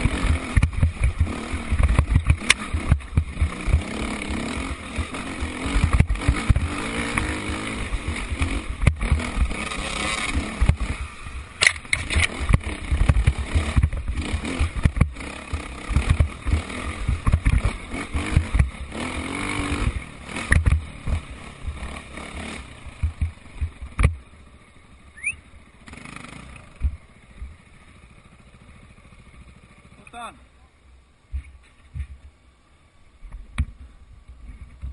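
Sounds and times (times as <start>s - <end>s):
motorcycle engines revving: 0.0s - 30.4s.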